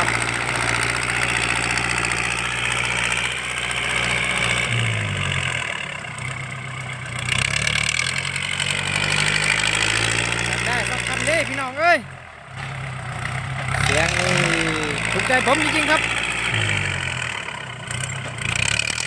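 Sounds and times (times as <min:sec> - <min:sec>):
tractor diesel engine exhaust: 0:00.0 - 0:19.0.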